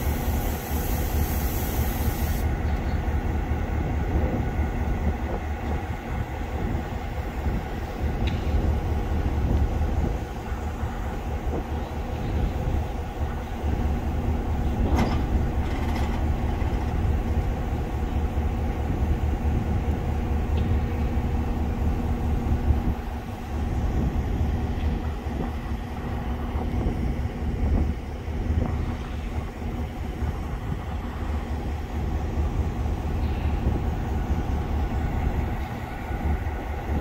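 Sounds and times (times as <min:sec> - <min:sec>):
diesel locomotive engine rumble: 0:00.0 - 0:37.0.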